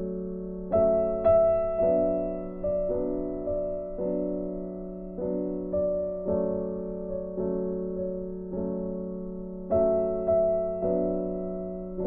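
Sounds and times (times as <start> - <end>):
slow gentle piano melody: 0.0 - 12.0.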